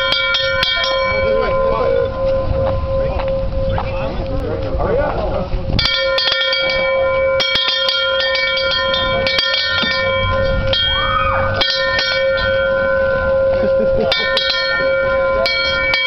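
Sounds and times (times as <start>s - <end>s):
large bell ringing: 0.0s - 16.0s.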